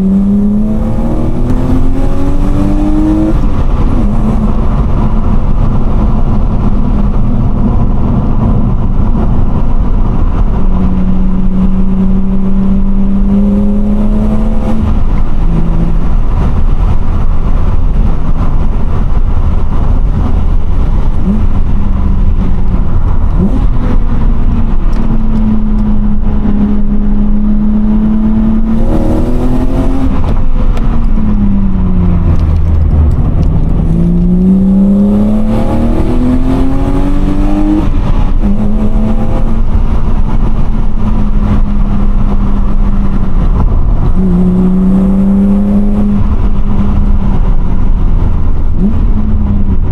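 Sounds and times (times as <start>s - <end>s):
car engine accelerating: 0.0s - 49.9s
road and wind rumble: 0.0s - 49.9s.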